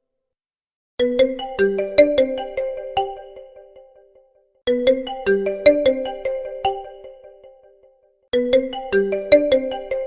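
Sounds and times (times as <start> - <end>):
phone ringtone chiming melody: 1.0 - 10.0.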